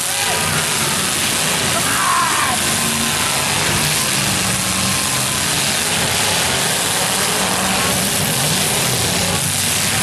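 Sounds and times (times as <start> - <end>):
car engines running together: 0.0 - 10.0.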